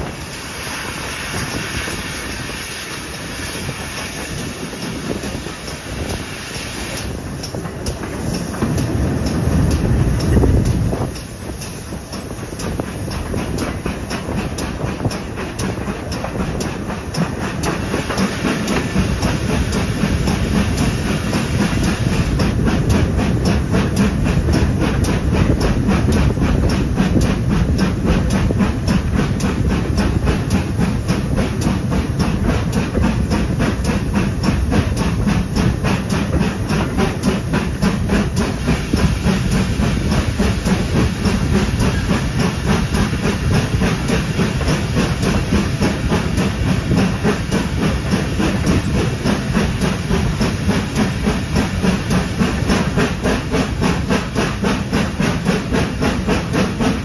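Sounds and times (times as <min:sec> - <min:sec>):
train wheels on rails: 0:00.0 - 0:57.0
wind rush: 0:00.0 - 0:57.0.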